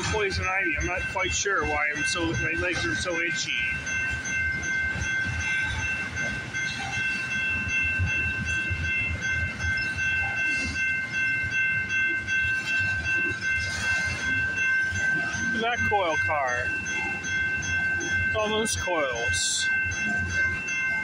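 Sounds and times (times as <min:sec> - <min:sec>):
freight train rumble and clatter: 0:00.0 - 0:21.0.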